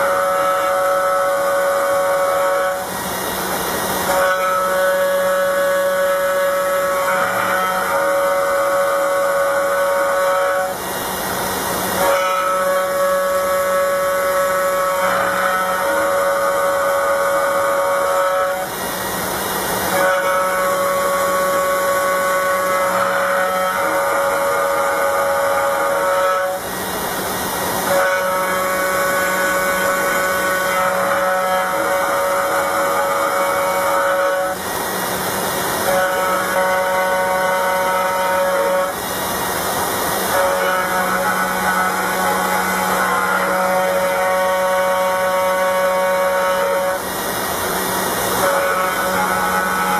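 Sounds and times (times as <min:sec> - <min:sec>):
router spindle milling metal: 0:00.0 - 0:49.9.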